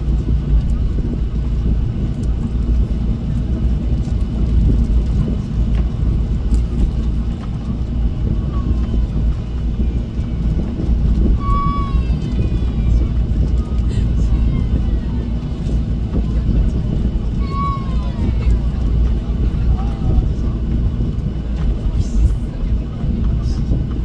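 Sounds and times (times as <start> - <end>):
airplane cabin rumble taxiing: 0.0 - 24.0.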